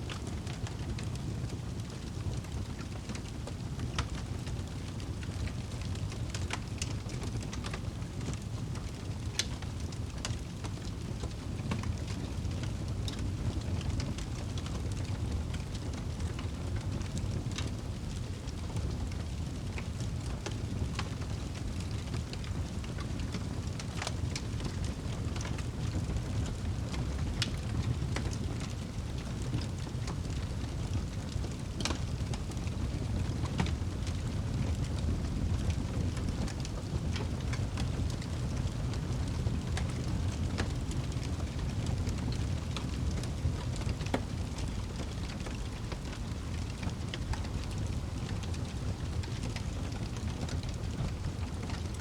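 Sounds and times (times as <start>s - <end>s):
fire rumbling: 0.0s - 52.0s
logs crackling and popping: 0.1s - 52.0s.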